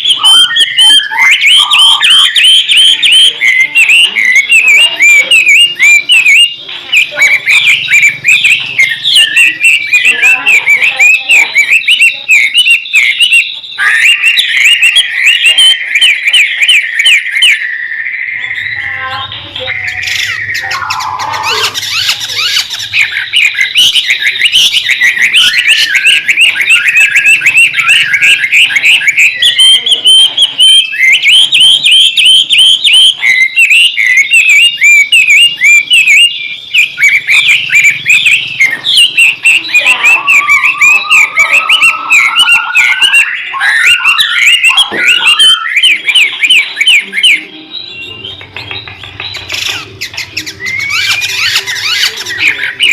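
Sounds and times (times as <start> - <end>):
bird singing: 0.0 - 52.9.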